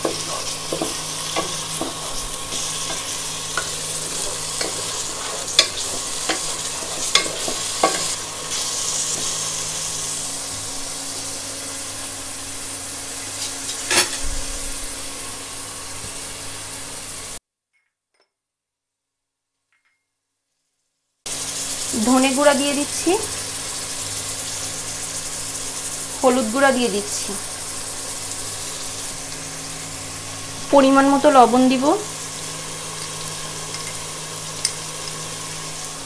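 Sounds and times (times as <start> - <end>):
food sizzling in hot oil: 0.0 - 17.4, 21.3 - 36.0.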